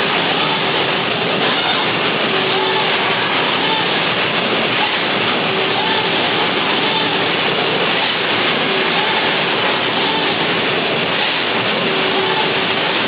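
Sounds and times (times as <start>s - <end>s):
punch press running: 0.0s - 13.0s
shear cutting sheet metal: 0.0s - 13.0s.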